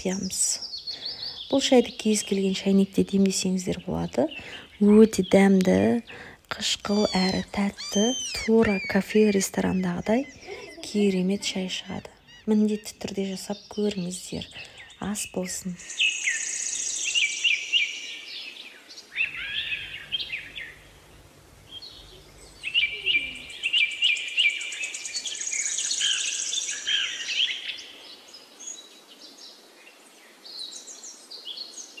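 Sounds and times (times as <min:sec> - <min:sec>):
small songbirds chirping and trilling: 0:00.0 - 0:32.0.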